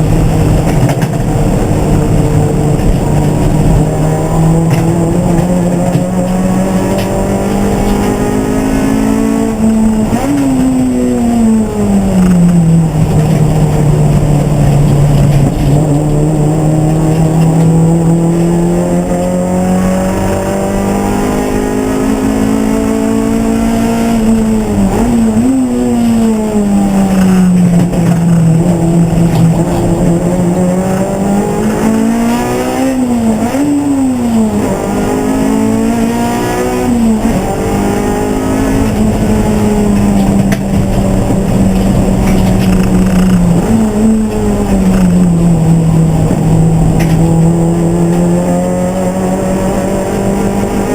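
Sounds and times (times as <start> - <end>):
race car engine running hard: 0.0 - 50.9.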